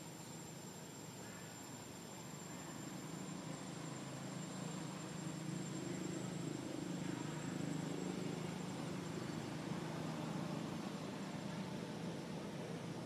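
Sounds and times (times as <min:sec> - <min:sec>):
thin high-pitched whine: 0:00.0 - 0:13.0.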